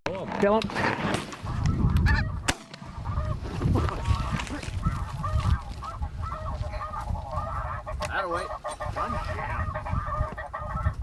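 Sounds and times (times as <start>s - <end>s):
geese honking: 0.8s - 11.0s.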